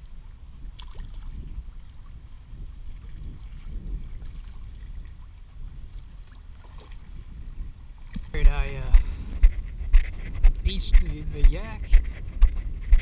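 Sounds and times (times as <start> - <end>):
water lapping against kayak hull: 0.0 - 13.0
wind rumbling on microphone: 0.0 - 13.0.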